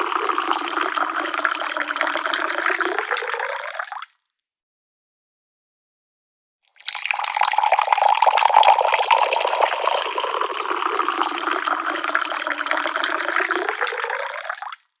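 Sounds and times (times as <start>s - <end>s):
water pouring into a cup: 0.0s - 4.1s, 6.7s - 14.8s.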